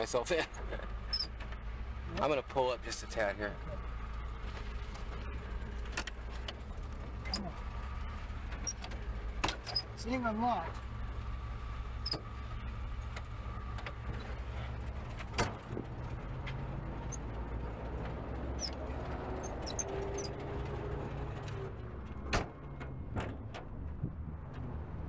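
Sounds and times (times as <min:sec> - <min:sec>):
engine idling: 0:00.0 - 0:24.1.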